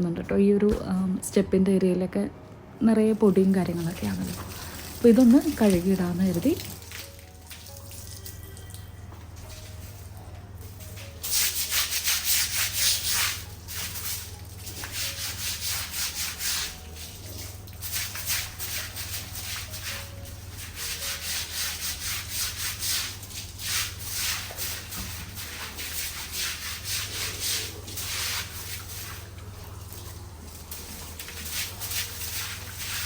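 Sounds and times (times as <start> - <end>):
brush scrubbing wet floor: 3.7 - 8.0, 9.4 - 33.0.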